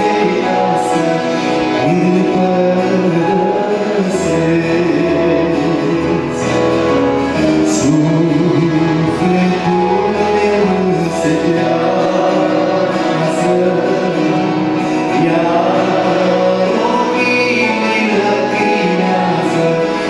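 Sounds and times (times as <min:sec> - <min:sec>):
acoustic guitar: 0:00.0 - 0:20.0
electronic keyboard: 0:00.0 - 0:20.0
man singing into a microphone: 0:00.0 - 0:20.0.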